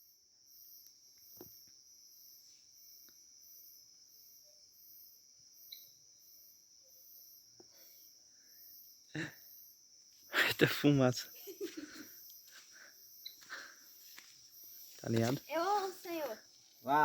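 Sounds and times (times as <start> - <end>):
insect chirps: 0.0 - 17.0
insects trilling: 0.0 - 17.0.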